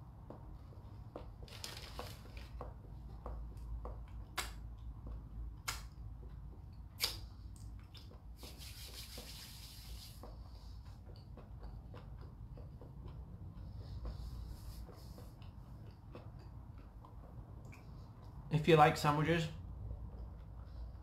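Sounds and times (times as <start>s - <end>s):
person chewing bread: 0.2s - 8.5s, 10.2s - 18.5s, 19.6s - 21.0s.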